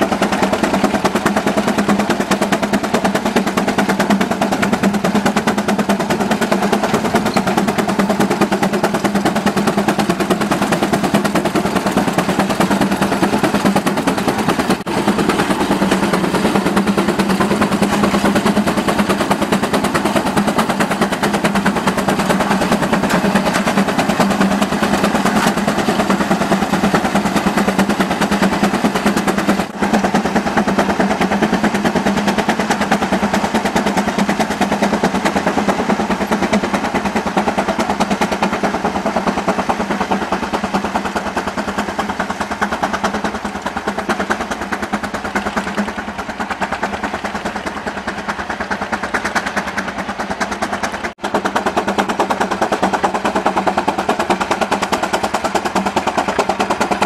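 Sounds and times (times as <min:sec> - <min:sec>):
steam engine exhaust chuffing: 0:00.0 - 0:57.0.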